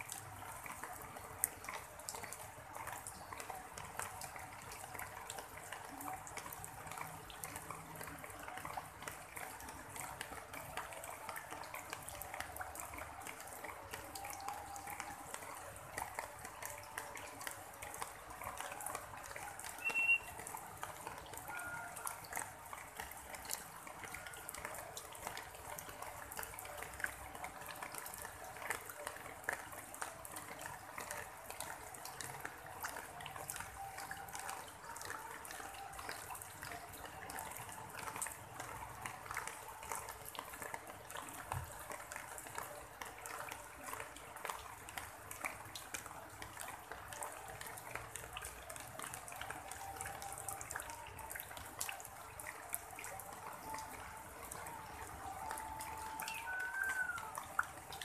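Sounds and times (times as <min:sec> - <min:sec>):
rain drops pattering: 0:00.0 - 0:58.0
running water: 0:00.0 - 0:58.0.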